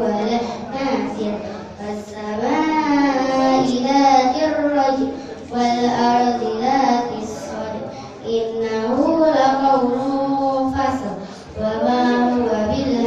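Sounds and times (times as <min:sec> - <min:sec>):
child chanting melodically: 0:00.0 - 0:13.0.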